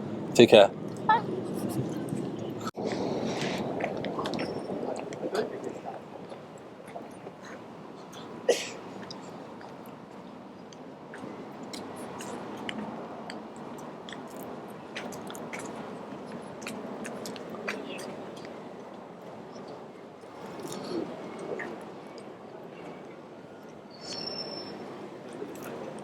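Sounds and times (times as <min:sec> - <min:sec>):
outdoor background hush: 0:00.0 - 0:26.0.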